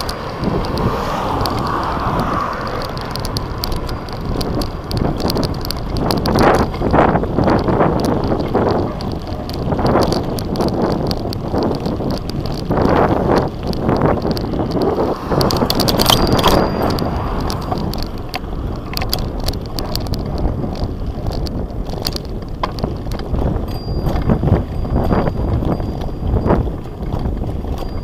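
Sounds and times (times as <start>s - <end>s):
bicycle clicks and rattles: 0.0s - 28.0s
bicycle tyres rumbling: 0.0s - 28.0s
wind buffeting microphone: 0.0s - 28.0s.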